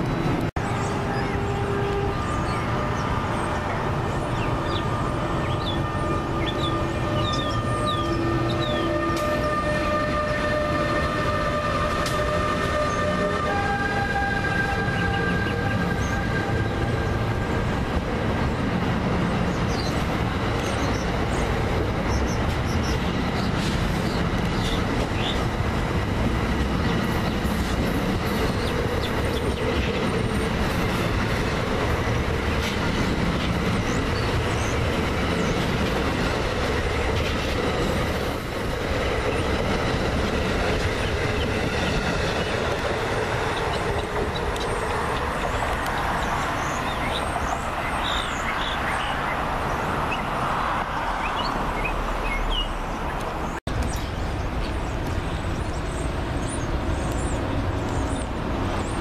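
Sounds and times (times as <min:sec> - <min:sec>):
train wheels rumbling on rails: 0:00.0 - 0:52.2, 0:52.8 - 0:59.0.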